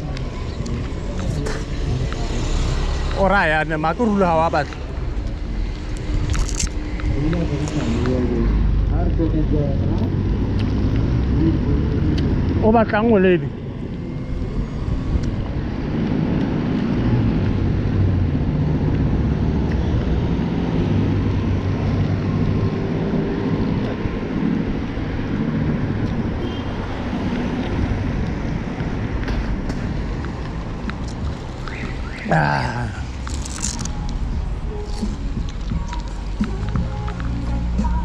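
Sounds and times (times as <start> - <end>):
road noise: 0.0 - 38.0.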